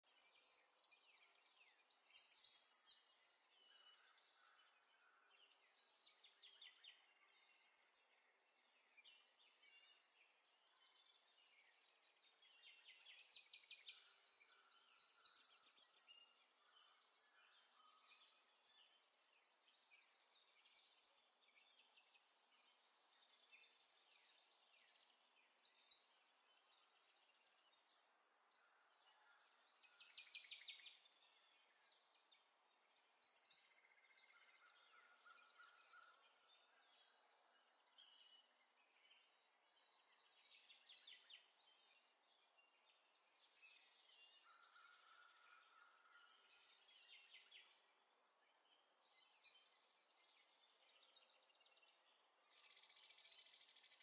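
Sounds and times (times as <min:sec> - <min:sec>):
birds chirping and trilling: 0:01.4 - 0:47.9.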